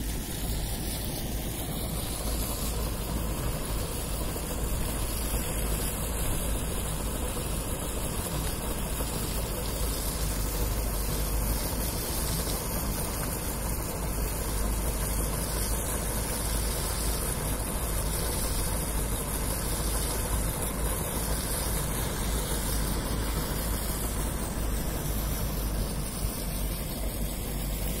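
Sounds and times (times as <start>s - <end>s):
machinery drone: 0.0s - 28.0s.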